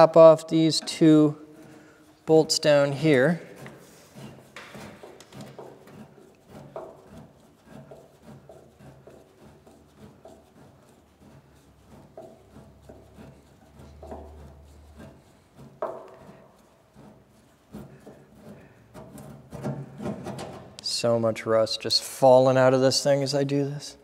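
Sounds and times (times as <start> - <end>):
screwdriver scraping on metal: 0.0 - 20.8.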